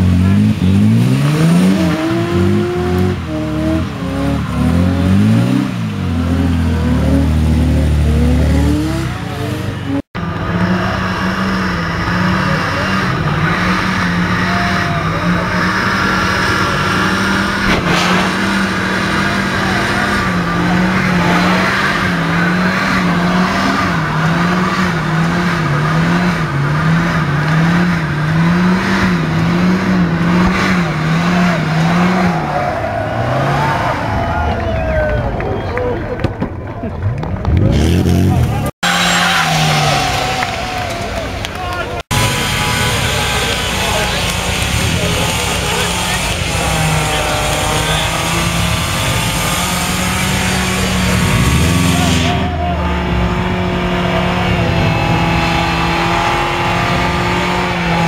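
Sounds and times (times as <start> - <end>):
car engine revving hard: 0.0 - 34.4, 37.5 - 58.0.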